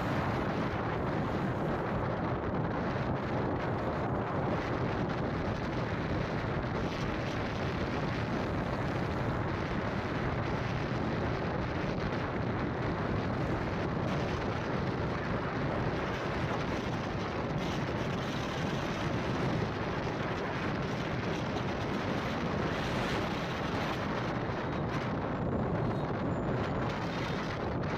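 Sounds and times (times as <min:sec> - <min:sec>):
vehicle road and wind noise: 0:00.0 - 0:27.9.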